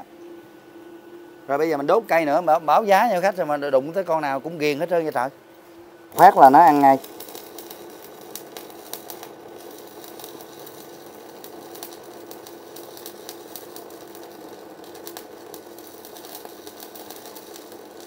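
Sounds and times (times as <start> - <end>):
welding arc crackling and sizzling: 1.5 - 18.0.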